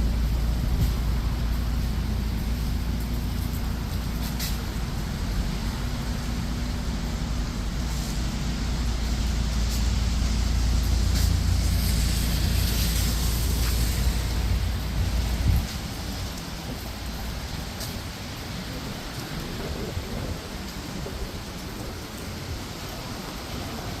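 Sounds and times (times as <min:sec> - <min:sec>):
heavy rain on city street: 0:00.0 - 0:24.0
road traffic: 0:00.0 - 0:24.0.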